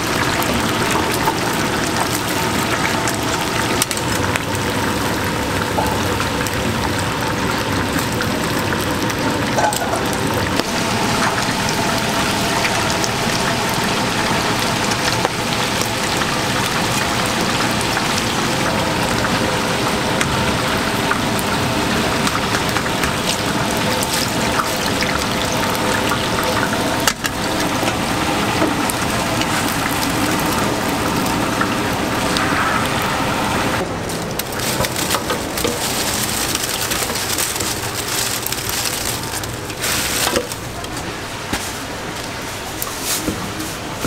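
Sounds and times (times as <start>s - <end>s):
food sizzling in hot oil: 0.0s - 40.7s.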